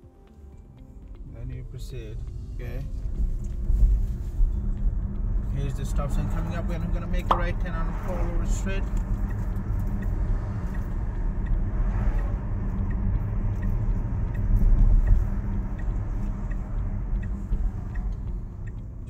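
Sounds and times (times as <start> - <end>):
road and tyre rumble: 0.0 - 19.0
turn signal ticking: 0.0 - 19.0.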